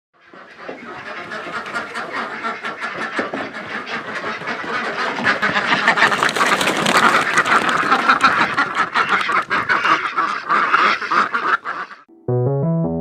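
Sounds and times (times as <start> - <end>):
ducks quacking: 0.2 - 12.1.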